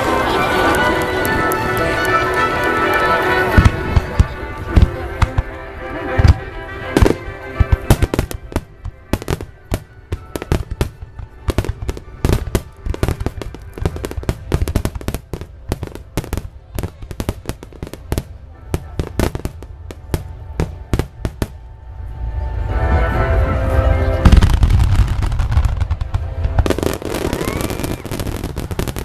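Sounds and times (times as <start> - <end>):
fireworks bangs and crackles: 0.0 - 22.6, 23.5 - 29.0.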